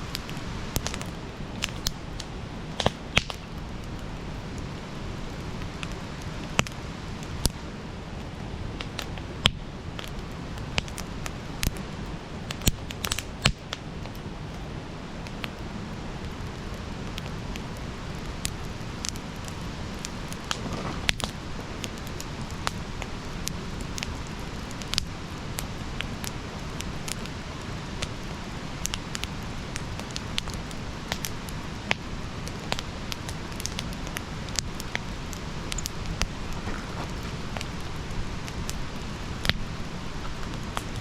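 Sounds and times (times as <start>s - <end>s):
burning wood crackling and popping: 0.0s - 41.0s
fire hissing and rumbling: 0.0s - 41.0s.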